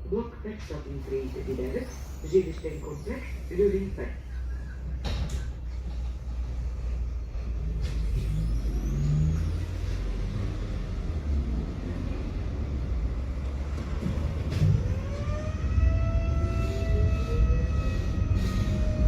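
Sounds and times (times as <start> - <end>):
electric tram rumbling: 0.0 - 19.0
traction motors whining: 0.9 - 19.0.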